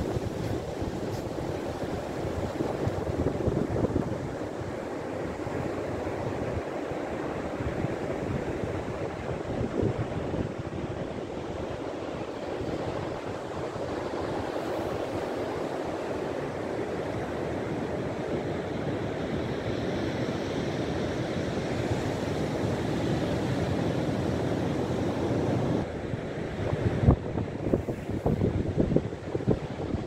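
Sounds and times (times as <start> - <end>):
wind on microphone: 0.0 - 15.6, 21.0 - 30.0
ocean waves breaking on beach: 0.0 - 30.0.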